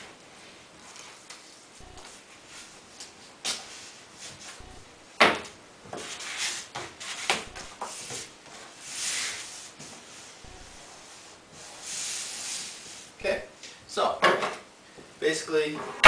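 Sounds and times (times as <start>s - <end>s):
vinyl sheet rustling: 0.0s - 13.2s.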